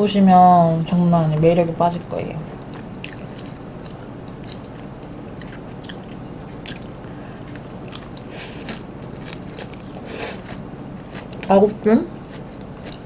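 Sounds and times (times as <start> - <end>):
chewing crisp salad leaves: 1.8 - 13.0.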